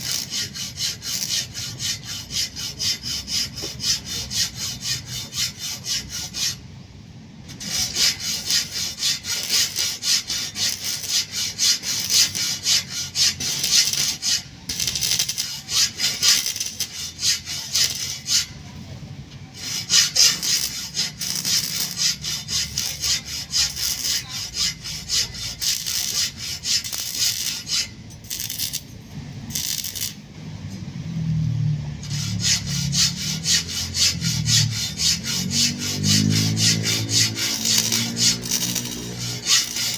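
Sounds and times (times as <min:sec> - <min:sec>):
handsaw cutting wood: 0:00.0 - 0:06.6, 0:07.6 - 0:18.6, 0:19.6 - 0:28.8, 0:32.0 - 0:39.9.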